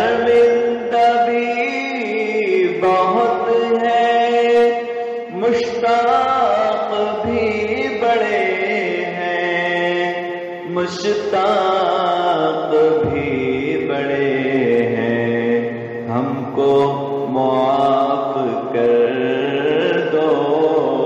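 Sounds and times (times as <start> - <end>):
man singing long wavering notes: 0.0 - 21.0
multiple vocal lines: 0.0 - 21.0.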